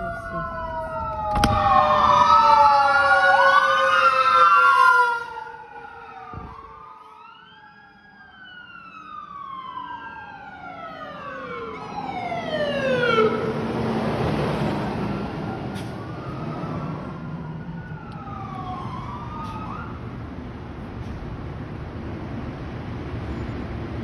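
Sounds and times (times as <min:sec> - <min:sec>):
emergency sirens wailing: 0:00.0 - 0:24.0.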